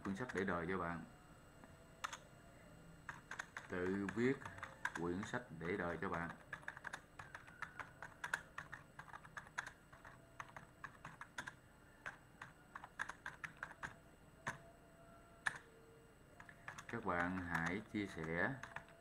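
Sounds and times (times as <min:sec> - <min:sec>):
keyboard typing clicks: 0:00.0 - 0:00.5, 0:02.0 - 0:02.3, 0:03.0 - 0:14.7, 0:15.4 - 0:15.7, 0:16.4 - 0:19.0.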